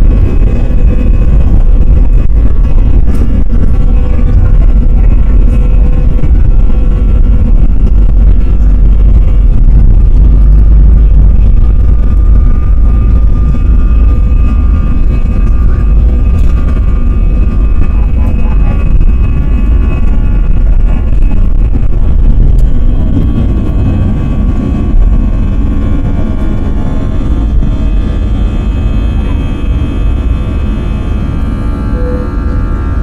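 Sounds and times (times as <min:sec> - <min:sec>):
jet engines rumbling with whine: 0:00.0 - 0:33.0.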